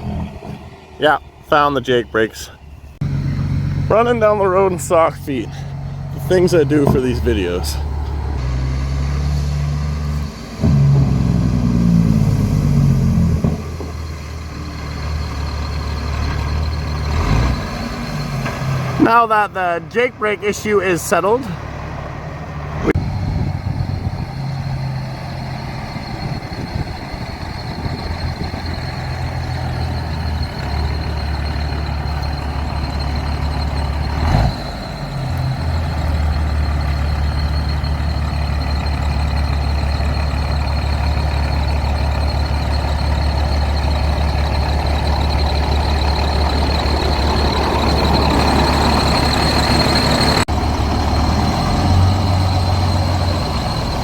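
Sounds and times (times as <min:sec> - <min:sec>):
truck diesel engine with whine: 0:00.0 - 0:54.0.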